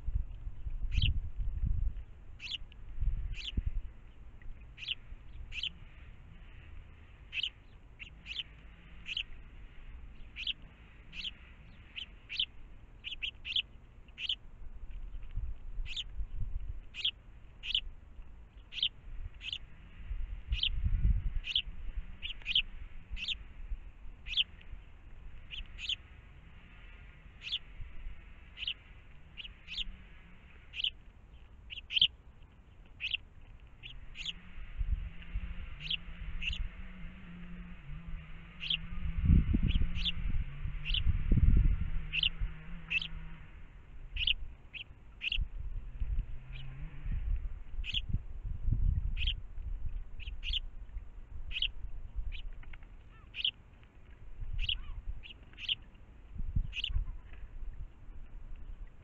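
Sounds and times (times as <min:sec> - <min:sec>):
sparrows chirping: 0:00.5 - 0:36.9, 0:38.1 - 0:59.0.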